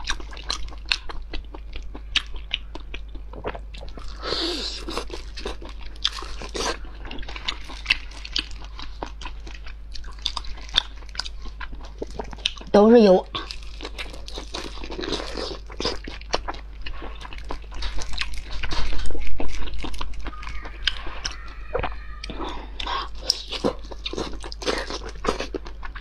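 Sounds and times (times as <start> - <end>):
wet chewing with crunching bites: 0.0 - 26.0.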